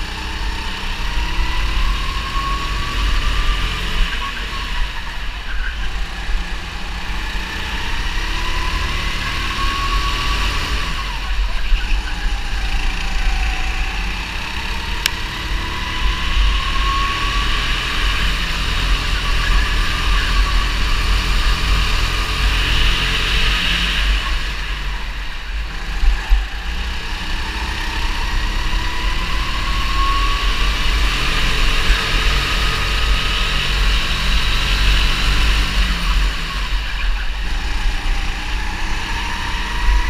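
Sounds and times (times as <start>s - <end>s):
go-kart engine running hard: 0.0s - 40.0s.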